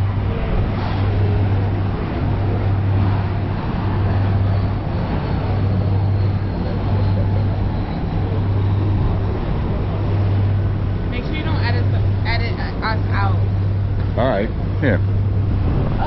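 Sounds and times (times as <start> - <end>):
low engine drone: 0.0 - 16.0
rushing noise: 0.0 - 16.0.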